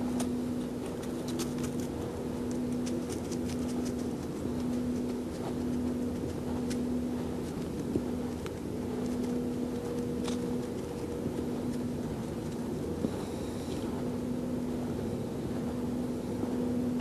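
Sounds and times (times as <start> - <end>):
droning tone: 0.0 - 17.0
low mechanical hum: 0.0 - 17.0.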